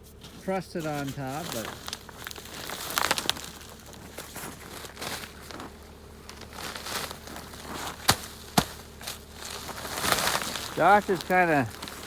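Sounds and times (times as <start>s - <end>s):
plastic sheeting crinkling: 0.1s - 12.0s.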